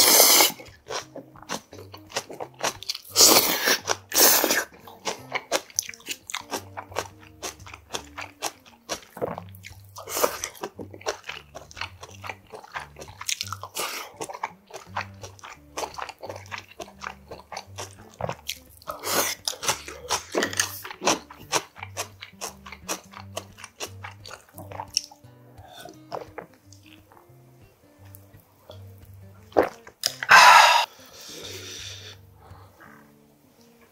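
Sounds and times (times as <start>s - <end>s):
wet chewing: 0.0s - 27.4s, 28.0s - 30.9s.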